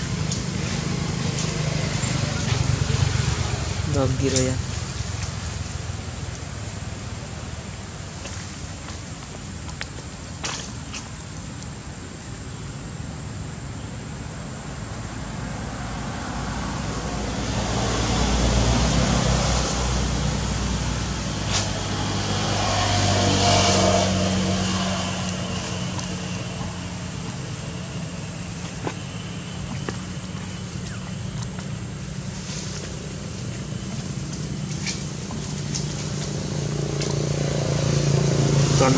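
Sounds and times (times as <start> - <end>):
vehicle engine passing: 0.0 - 8.3, 15.2 - 38.9
road noise: 0.0 - 38.9.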